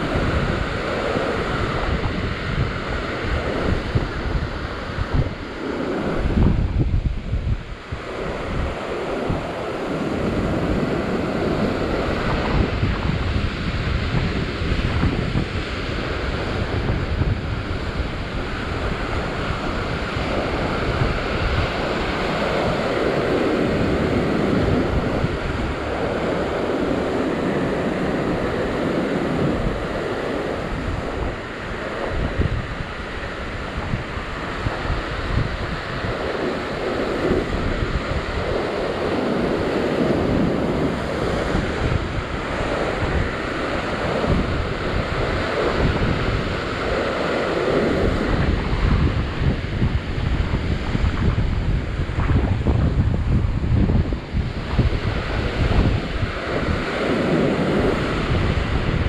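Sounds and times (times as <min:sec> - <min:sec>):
wind on microphone: 0:00.0 - 0:59.0.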